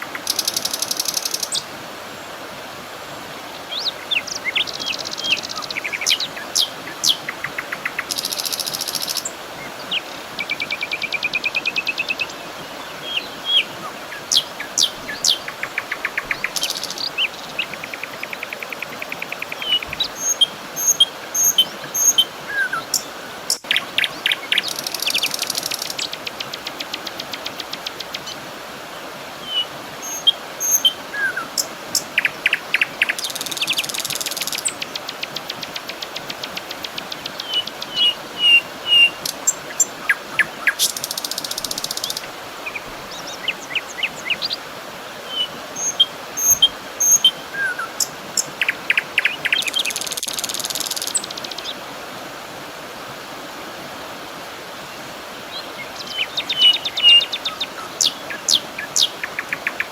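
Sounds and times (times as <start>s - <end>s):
songbirds singing: 0.0s - 2.3s, 3.2s - 51.9s, 55.4s - 59.9s
soft hiss: 0.0s - 59.9s.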